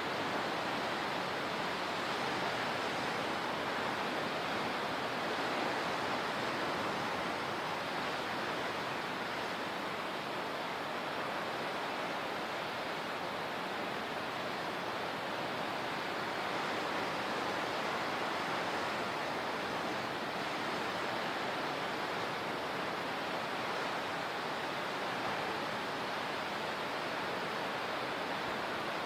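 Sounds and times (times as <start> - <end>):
water rushing: 0.0 - 29.0.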